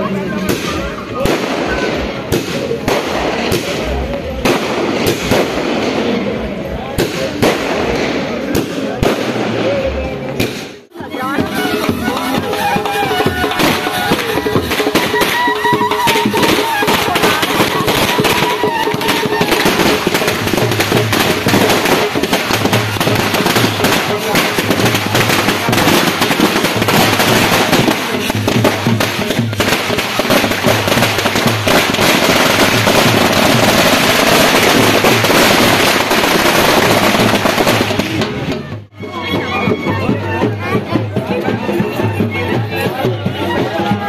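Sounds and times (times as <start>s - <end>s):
firecrackers crackling: 0.0s - 39.4s.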